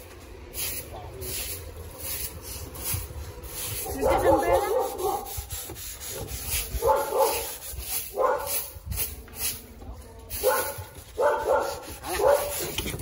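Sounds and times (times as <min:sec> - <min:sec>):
brush scrubbing: 0:00.6 - 0:13.0.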